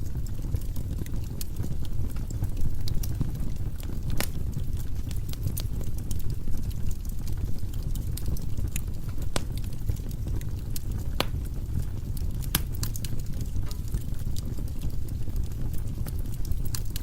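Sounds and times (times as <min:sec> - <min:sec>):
firewood burning with crackles: 0:00.0 - 0:17.0.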